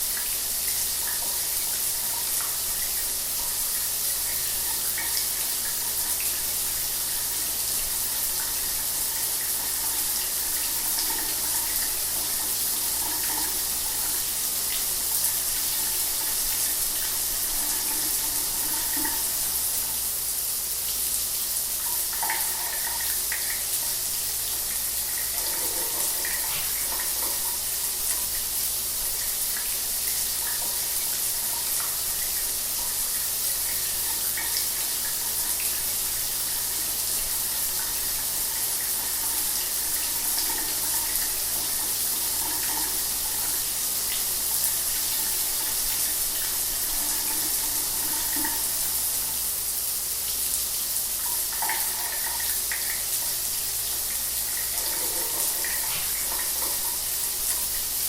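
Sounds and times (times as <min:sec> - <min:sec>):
shower water running: 0:00.0 - 0:58.0.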